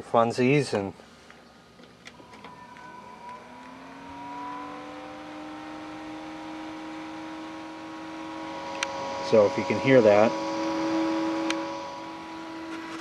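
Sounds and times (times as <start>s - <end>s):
cooling fan humming: 0.0s - 13.0s.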